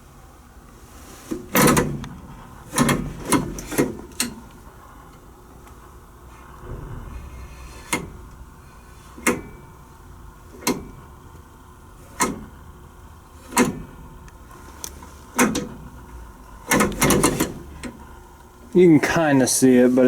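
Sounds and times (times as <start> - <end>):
locomotive control clacking: 1.3 - 19.0.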